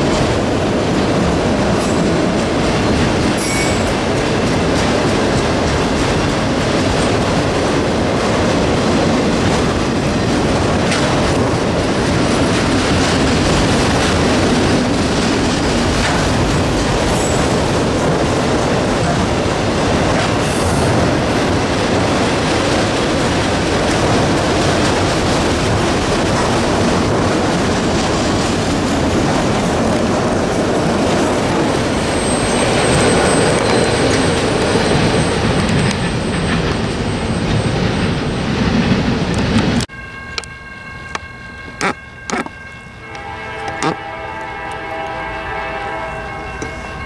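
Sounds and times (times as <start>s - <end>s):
freight train cars rolling: 0.0s - 47.0s.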